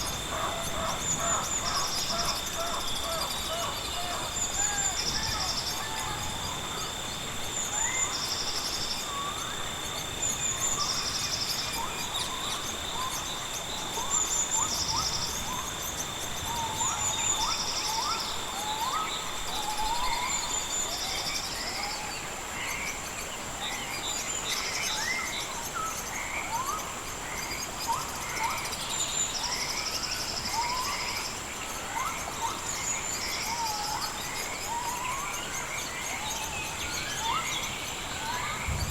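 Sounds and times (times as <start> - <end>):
insects whining: 0.0 - 38.9.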